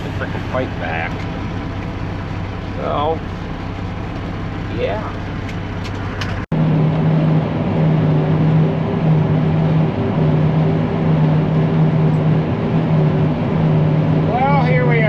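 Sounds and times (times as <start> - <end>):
tractor and forage chopper drone: 0.0 - 15.0.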